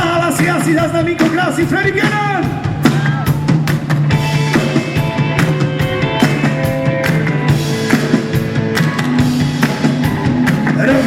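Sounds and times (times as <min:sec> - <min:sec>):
live rock band playing: 0:00.0 - 0:11.0
steady drum beat: 0:00.0 - 0:11.0.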